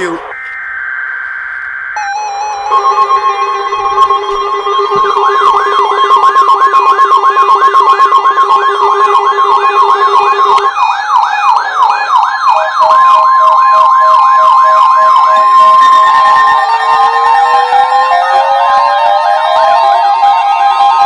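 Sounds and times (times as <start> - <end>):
rising electronic glides: 0.0 - 19.9
electronic siren warbling: 0.0 - 21.0
long steady tone: 0.0 - 21.0
pulsed steady beeps: 0.0 - 21.0
pulsing beep: 0.0 - 21.0.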